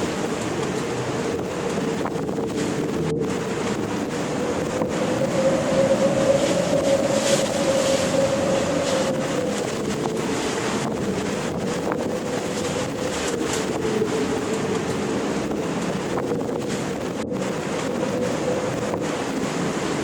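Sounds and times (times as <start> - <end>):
ocean surf: 0.0 - 20.0
steady droning tone: 0.0 - 20.0
wind: 0.0 - 20.0.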